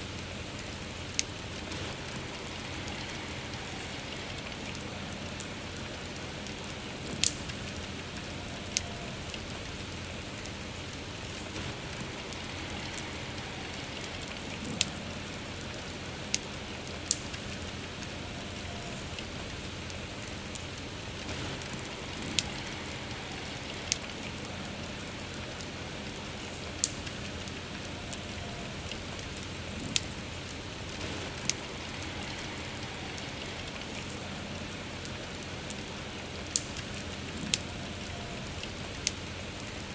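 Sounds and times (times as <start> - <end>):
steady rain hiss: 0.0 - 39.9
wood fire crackling and popping: 0.0 - 39.9.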